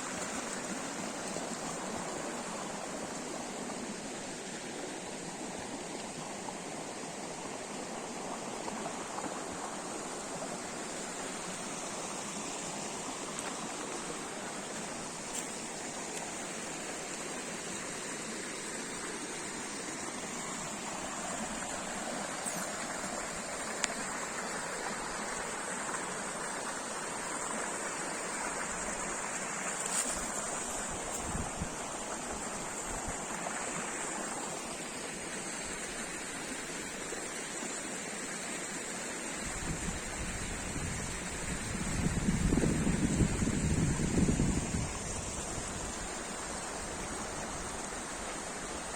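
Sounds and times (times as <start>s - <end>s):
running water: 0.0s - 48.9s.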